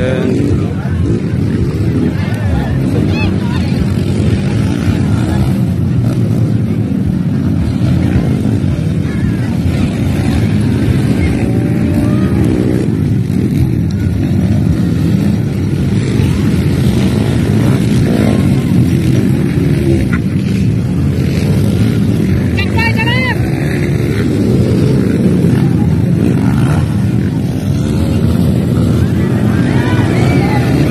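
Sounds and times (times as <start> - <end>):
dirt bike engines running: 0.0 - 30.9.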